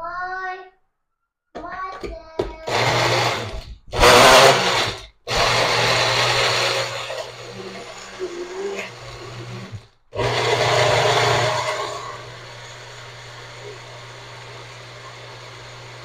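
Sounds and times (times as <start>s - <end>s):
blender motor whirring: 2.6s - 16.0s.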